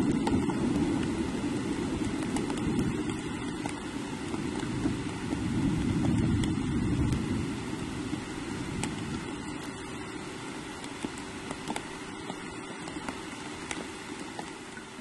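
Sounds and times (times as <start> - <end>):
sharp drip ticks: 0.0 - 7.3, 8.1 - 15.0
rain falling on forest: 0.0 - 15.0.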